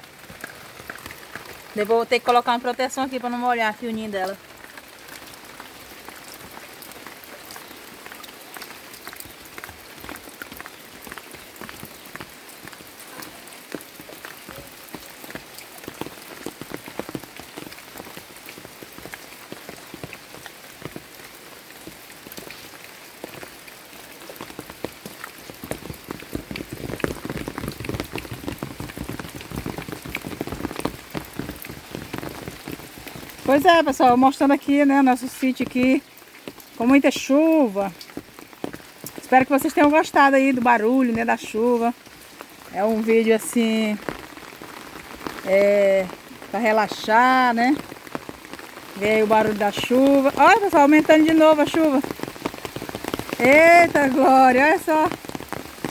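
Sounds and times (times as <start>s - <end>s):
rain falling steadily: 0.0s - 55.9s.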